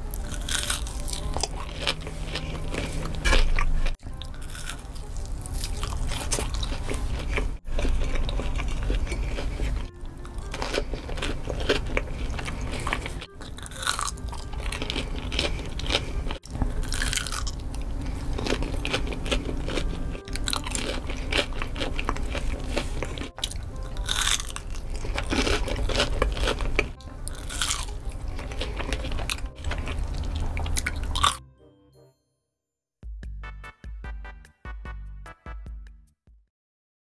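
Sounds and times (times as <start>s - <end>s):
crunchy bites and chewing: 0.0s - 31.4s.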